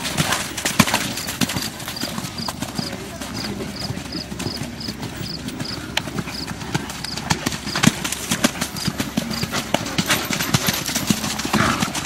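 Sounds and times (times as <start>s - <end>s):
horse hoofbeats on dirt: 0.0s - 12.0s.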